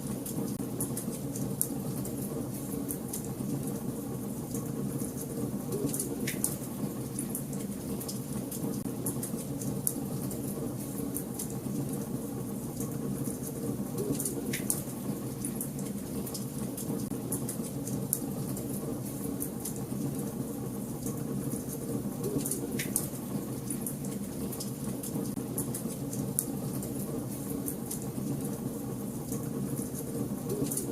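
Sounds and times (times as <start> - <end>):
small fire crackles: 0.0 - 30.9.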